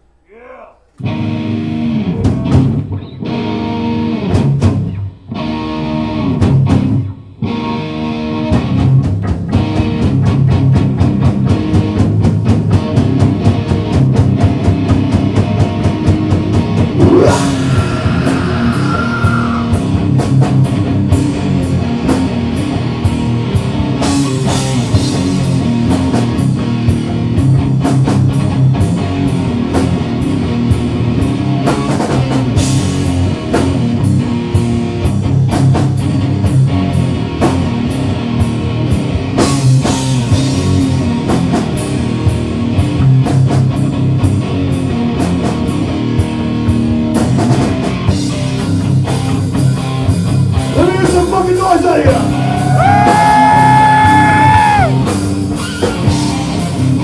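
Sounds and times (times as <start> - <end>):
distorted electric guitar chords: 0.0 - 51.2, 52.2 - 57.0
rock band playing: 0.0 - 57.0.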